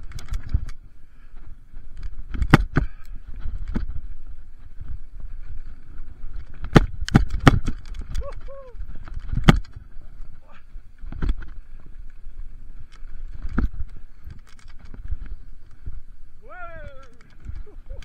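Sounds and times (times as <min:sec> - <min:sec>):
bike knocking and rattling: 0:00.0 - 0:18.0.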